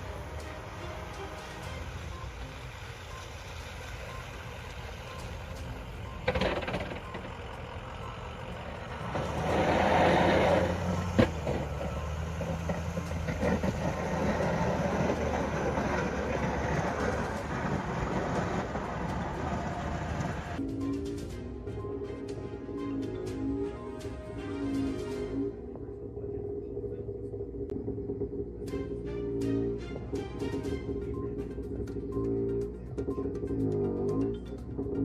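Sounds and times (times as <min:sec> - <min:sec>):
heavy vehicle engine running: 0:00.0 - 0:35.0.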